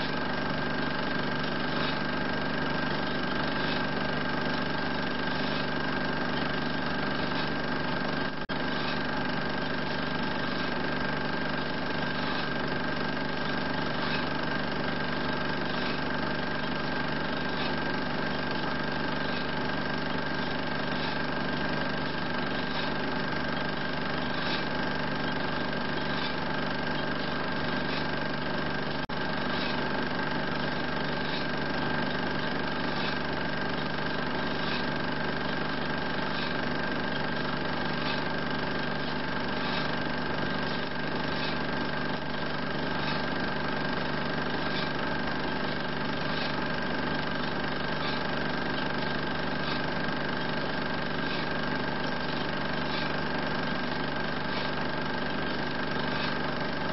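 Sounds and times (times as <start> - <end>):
film projector running: 0.0 - 56.9.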